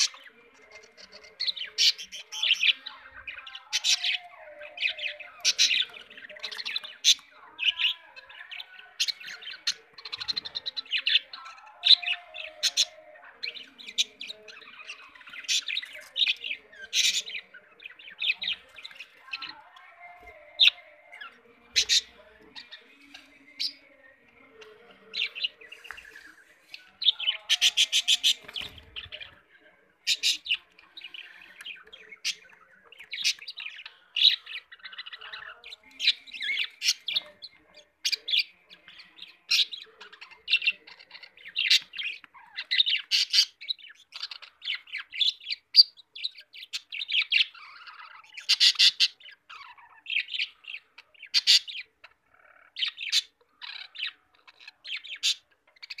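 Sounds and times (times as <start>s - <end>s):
budgerigars chirping: 0.0s - 29.4s, 30.0s - 56.0s.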